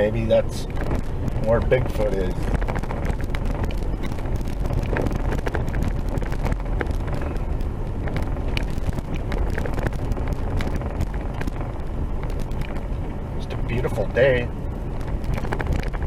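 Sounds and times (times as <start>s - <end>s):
vehicle rumbling on dirt road: 0.0s - 16.0s.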